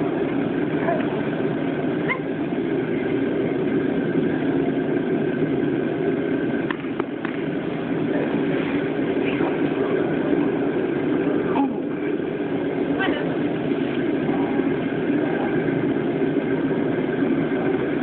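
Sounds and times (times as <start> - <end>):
faint falling whine: 0.0 - 18.0
low mechanical drone: 0.0 - 18.0.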